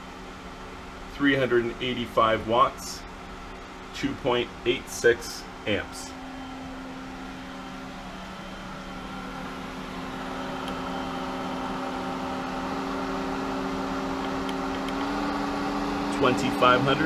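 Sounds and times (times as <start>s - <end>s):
pool pump motor hum: 0.0s - 17.0s.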